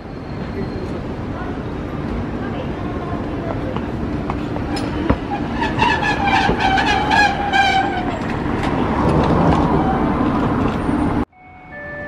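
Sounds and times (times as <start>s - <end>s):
tram rumbling past: 0.0s - 12.0s.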